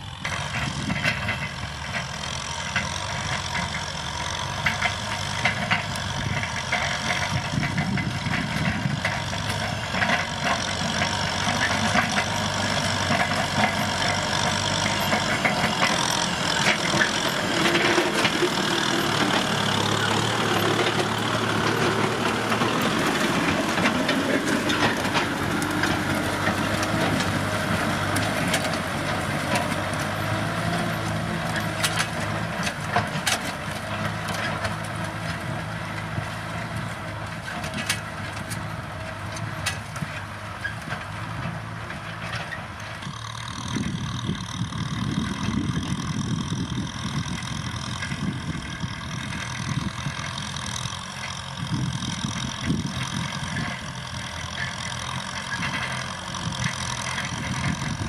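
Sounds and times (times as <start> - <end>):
tractor diesel engine running: 0.0 - 58.0
plough knocking through dry soil: 0.1 - 58.0.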